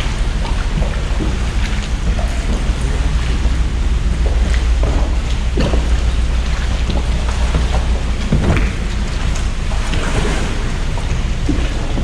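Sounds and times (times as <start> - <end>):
deep rumble: 0.0 - 12.0
water splashes: 0.0 - 12.0.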